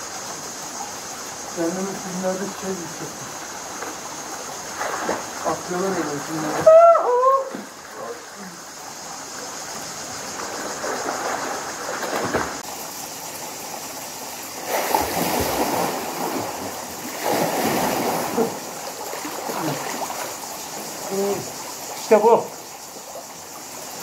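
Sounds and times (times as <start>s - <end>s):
water splashing and lapping: 0.0s - 6.7s, 7.5s - 24.0s.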